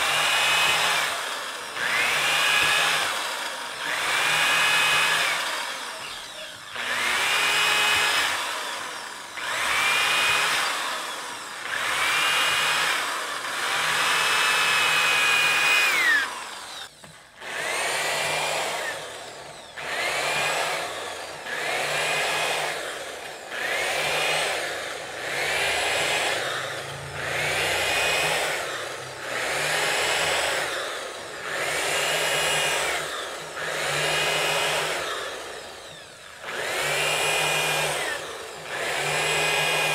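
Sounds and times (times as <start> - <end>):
electric drill whining into wood: 0.0 - 39.9.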